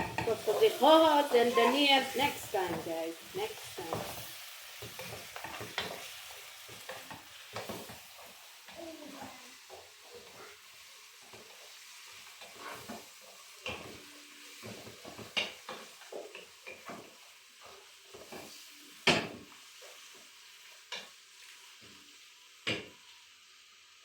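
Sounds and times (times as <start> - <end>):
faint frying sizzle: 0.0 - 24.0.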